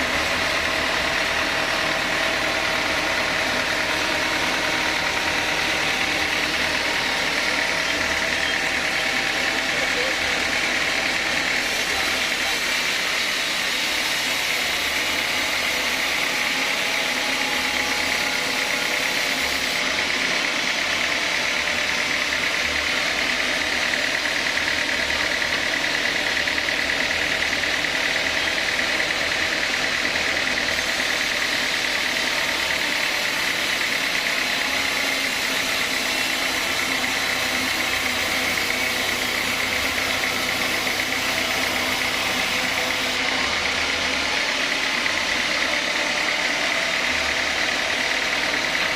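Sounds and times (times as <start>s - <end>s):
sawmill saw whining: 0.0s - 48.9s.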